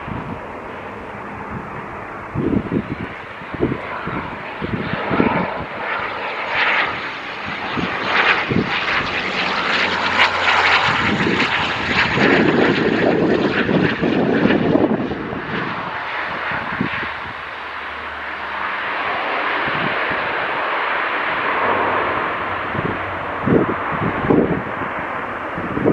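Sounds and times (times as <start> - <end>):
turboprop propeller and engine noise: 0.0 - 25.9.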